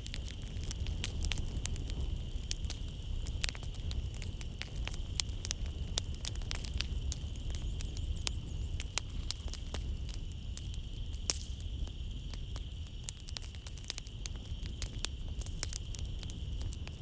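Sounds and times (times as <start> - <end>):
wood fire crackling: 0.0 - 17.0
night insects chirring: 0.3 - 16.9.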